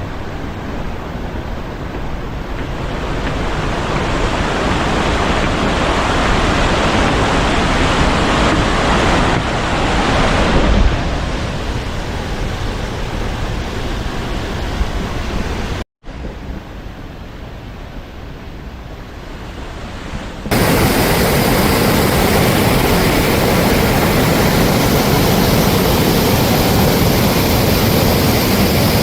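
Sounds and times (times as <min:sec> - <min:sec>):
stream water rushing: 0:00.0 - 0:16.2, 0:16.9 - 0:29.0.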